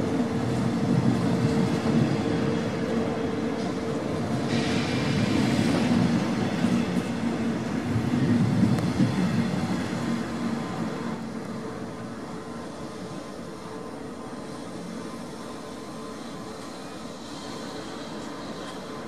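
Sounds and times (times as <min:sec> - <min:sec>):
train coaches rumbling past: 0:00.0 - 0:19.0.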